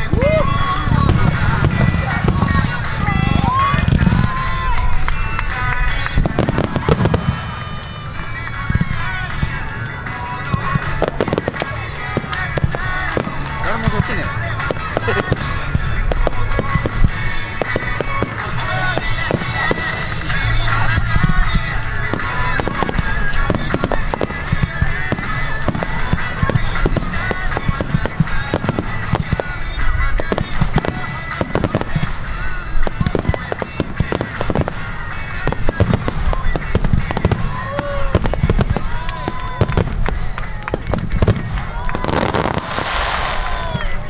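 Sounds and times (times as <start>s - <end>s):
firework shells bursting: 0.0s - 44.0s
music: 0.0s - 44.0s.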